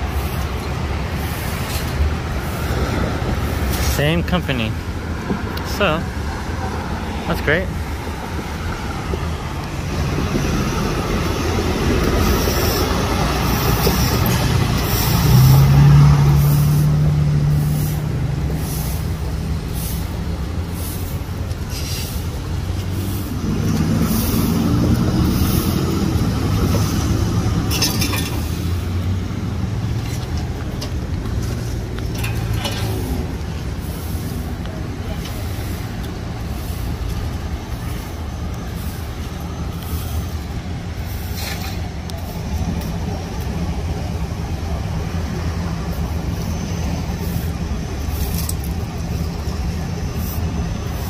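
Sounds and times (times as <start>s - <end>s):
traffic passing on wet road: 0.0s - 51.0s
heavy truck engine running: 6.8s - 51.0s.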